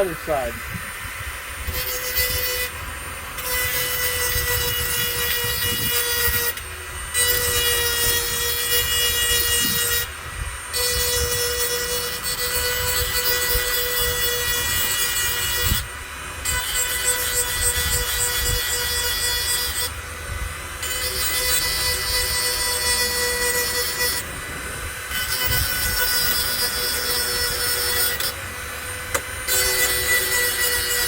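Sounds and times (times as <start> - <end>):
power sharpening tool whining: 0.0 - 31.0
grinding on metal blade teeth: 1.5 - 31.0.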